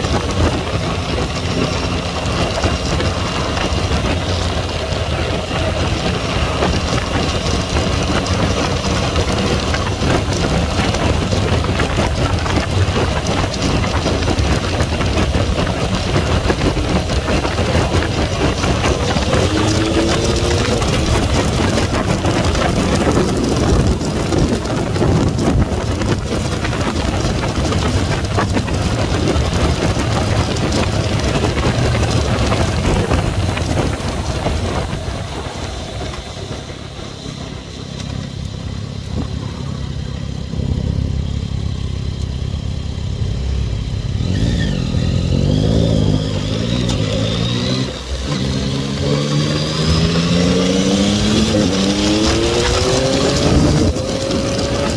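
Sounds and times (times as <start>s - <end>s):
motorcycle engine revving: 0.0s - 54.9s
wind noise: 0.0s - 54.9s.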